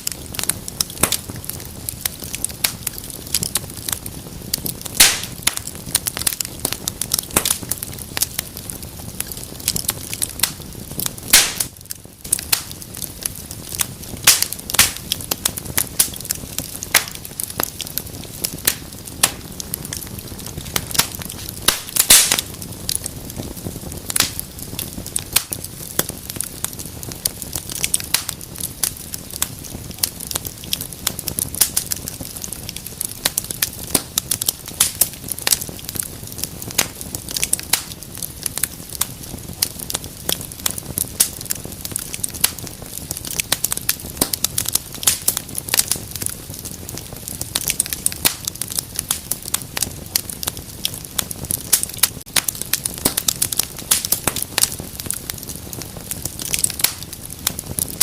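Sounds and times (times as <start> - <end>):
low rush of flame: 0.0 - 58.0
wood fire crackling and popping: 0.0 - 58.0.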